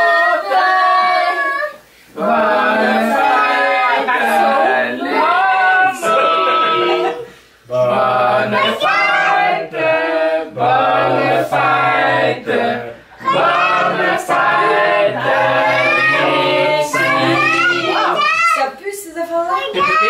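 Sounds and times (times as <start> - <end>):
group singing unaccompanied: 0.0 - 18.6.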